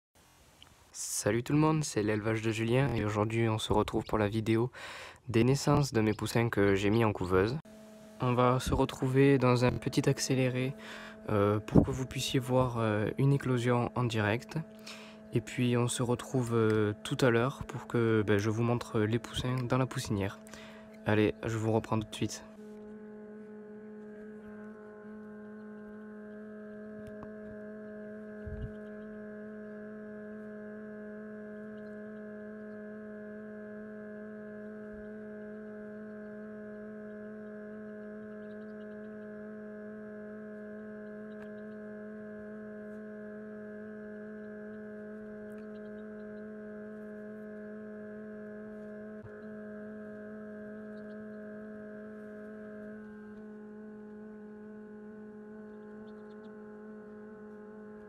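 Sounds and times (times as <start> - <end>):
incubator fan motor hum: 1.0 - 58.0.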